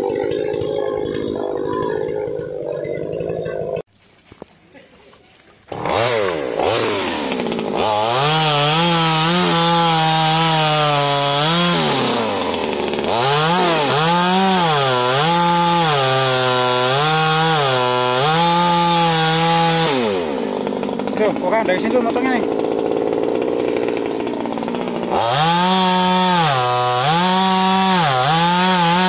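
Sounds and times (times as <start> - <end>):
chainsaw cutting wood: 0.0 - 3.9, 5.6 - 29.0.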